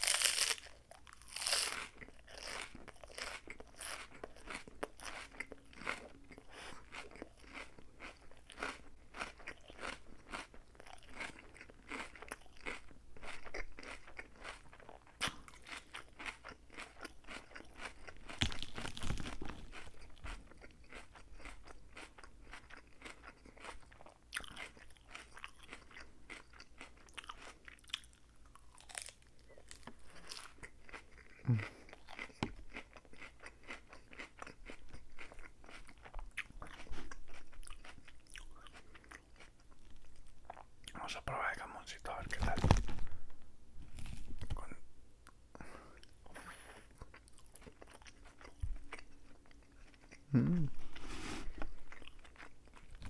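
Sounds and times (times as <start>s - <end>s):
lettuce crunching while chewing: 0.0s - 41.0s, 42.1s - 43.2s, 43.8s - 44.8s, 45.6s - 53.0s.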